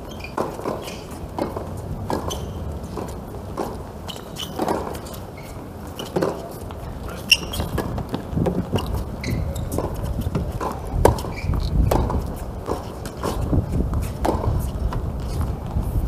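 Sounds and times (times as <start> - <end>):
players' footsteps: 0.0 - 16.0
tennis ball bounces: 0.2 - 5.4, 6.0 - 15.5.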